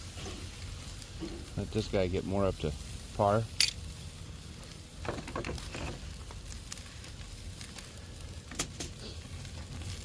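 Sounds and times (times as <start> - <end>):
crackles and clicks: 0.0 - 10.0
meat sizzling on a grill: 0.0 - 10.0.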